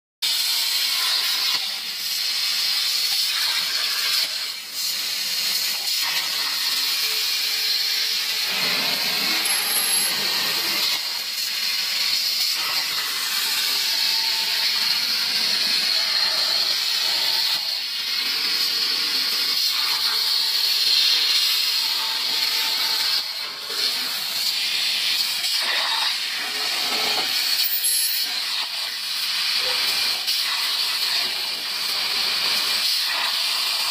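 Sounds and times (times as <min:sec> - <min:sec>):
plasma torch cutting metal: 0:00.2 - 0:33.9.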